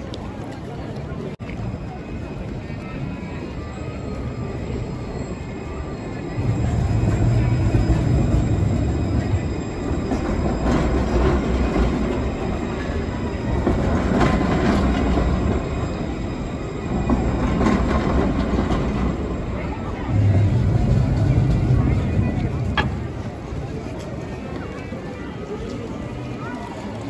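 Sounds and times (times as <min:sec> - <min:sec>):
tram wheels clacking: 0:00.0 - 0:27.0
tram wheels rumbling: 0:00.0 - 0:27.0.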